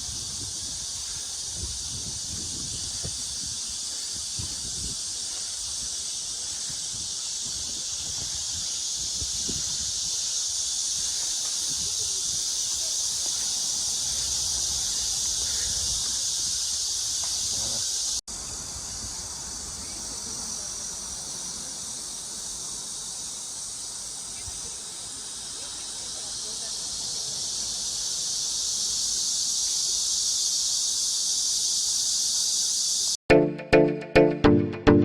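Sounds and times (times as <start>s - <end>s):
cicadas buzzing: 0.0s - 33.2s.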